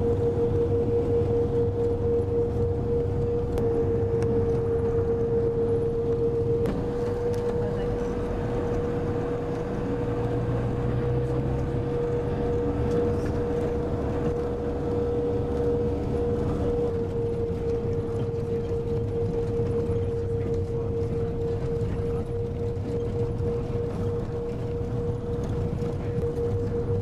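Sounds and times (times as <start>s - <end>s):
constant humming tone: 0.0s - 27.0s
vehicle engine and road rumble: 0.0s - 27.0s.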